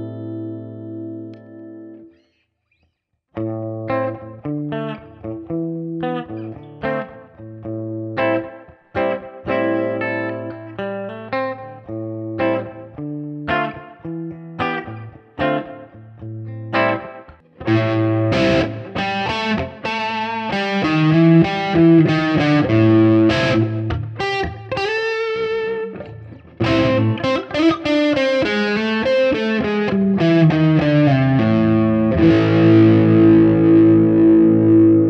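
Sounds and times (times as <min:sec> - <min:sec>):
overdriven electric guitar: 0:00.0 - 0:02.2, 0:03.4 - 0:35.0.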